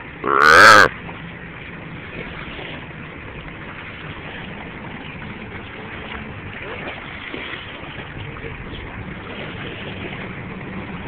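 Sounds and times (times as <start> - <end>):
shallow water: 0.0 - 11.0
wind: 0.0 - 11.0.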